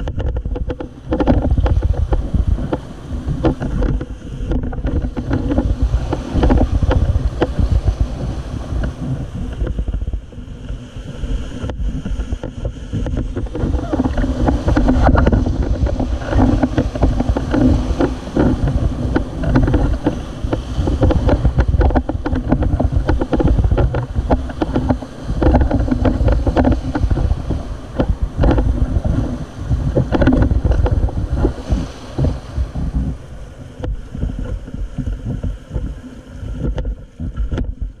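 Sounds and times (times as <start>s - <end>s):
rapids splashing against raft: 0.0s - 38.0s
wind buffeting microphone: 0.0s - 38.0s.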